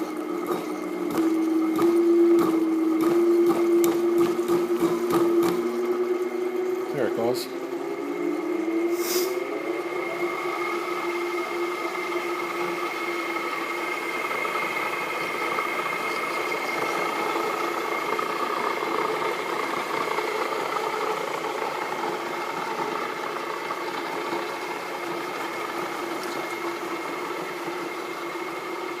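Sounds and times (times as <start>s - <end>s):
electric motor humming and whining: 0.0s - 29.0s.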